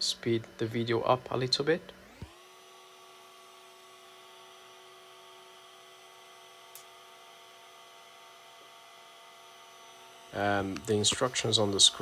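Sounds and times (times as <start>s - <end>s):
printer humming: 0.0s - 12.0s.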